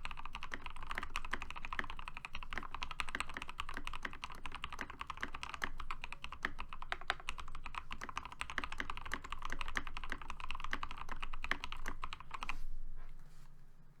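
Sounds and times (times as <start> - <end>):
mechanical keyboard typing: 0.0 - 12.5.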